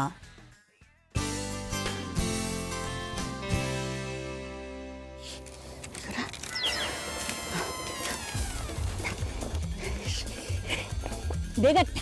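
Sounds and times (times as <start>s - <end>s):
background music sustained chords: 1.2s - 12.0s.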